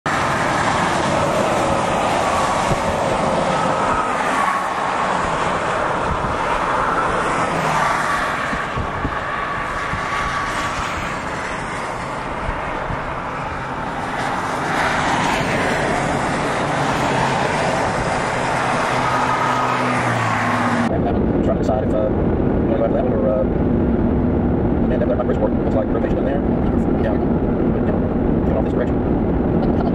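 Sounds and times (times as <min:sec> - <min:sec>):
car road and engine noise: 0:00.0 - 0:29.9.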